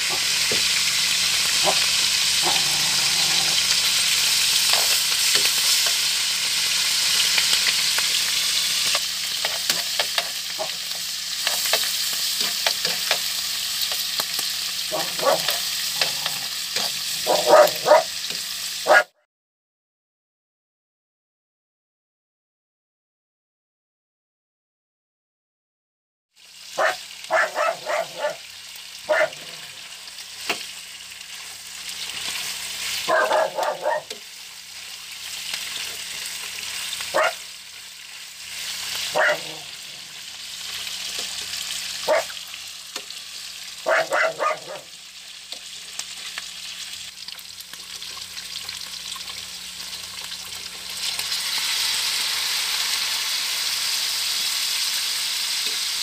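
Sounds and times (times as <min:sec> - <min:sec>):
meat sizzling in a pan: 0:00.0 - 0:19.1, 0:26.4 - 0:56.0.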